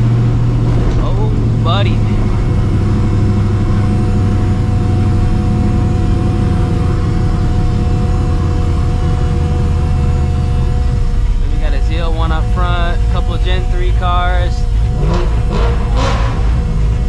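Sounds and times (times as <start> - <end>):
car engine exhaust rumble: 0.0 - 17.0
supercharger whine: 0.0 - 17.0.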